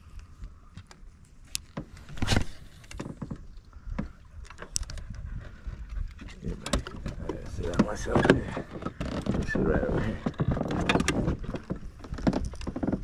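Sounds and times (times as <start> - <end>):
knocks and clicks of fishing gear: 0.7 - 13.0.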